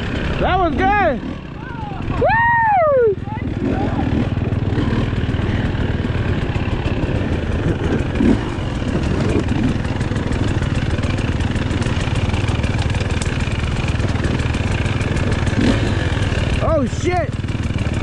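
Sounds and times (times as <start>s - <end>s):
two-stroke dirt bike engine: 0.0s - 18.0s.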